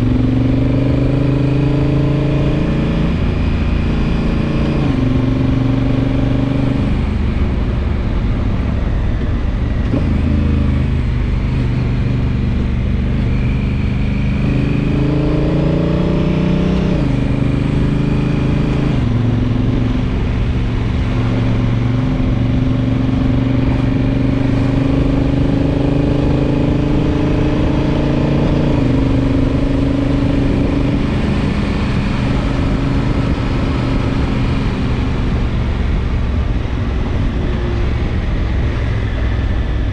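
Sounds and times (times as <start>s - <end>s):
motorcycle engine accelerating: 0.0s - 39.9s
road and wind noise: 0.0s - 39.9s.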